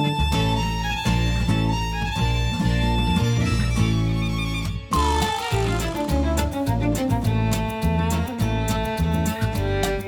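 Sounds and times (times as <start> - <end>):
fiddle and guitar music: 0.0 - 10.0.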